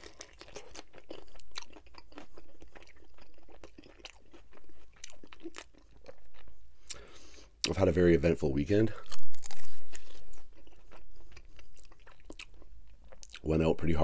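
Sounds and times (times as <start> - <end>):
person crunching fried chicken: 0.0 - 7.8, 8.8 - 13.5.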